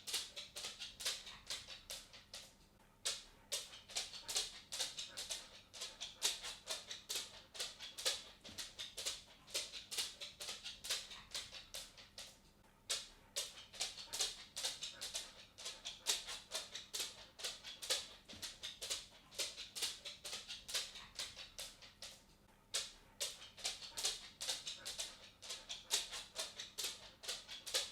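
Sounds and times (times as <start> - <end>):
dog claws clicking on wooden floor: 0.0 - 27.9.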